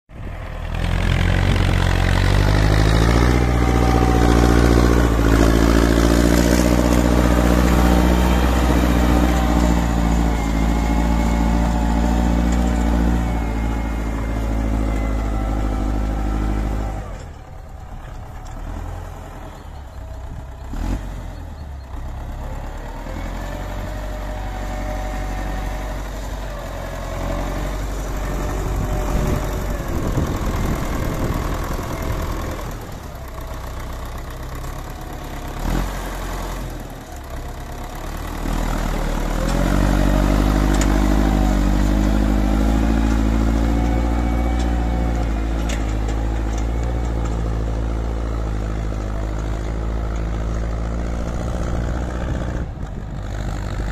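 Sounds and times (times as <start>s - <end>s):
tractor engine running: 0.1s - 53.9s.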